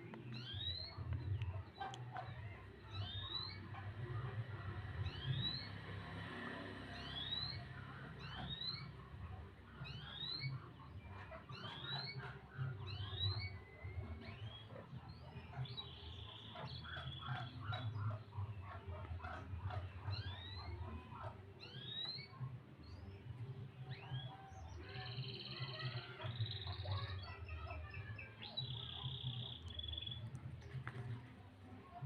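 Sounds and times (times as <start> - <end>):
bird chirping: 0.0 - 6.0, 6.8 - 32.0.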